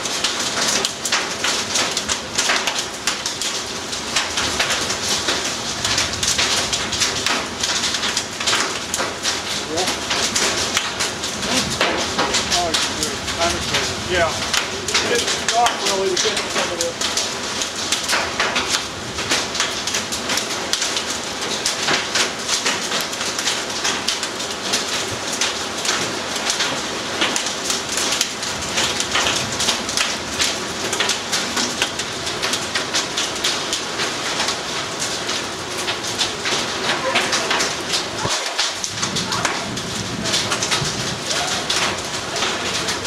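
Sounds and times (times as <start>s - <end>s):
heavy rain on vehicle: 0.0s - 43.0s.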